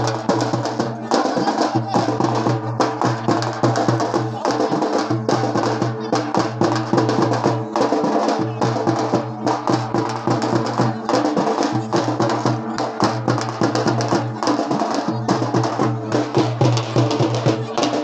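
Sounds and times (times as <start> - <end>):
drums beaten fast: 0.0 - 18.0.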